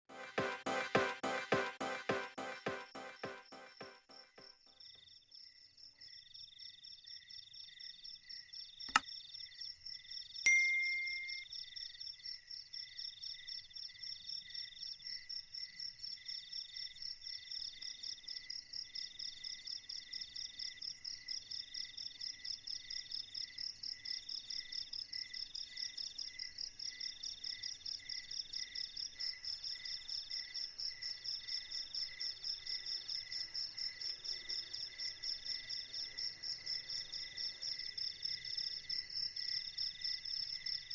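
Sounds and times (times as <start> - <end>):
crickets chirping: 4.4 - 40.9.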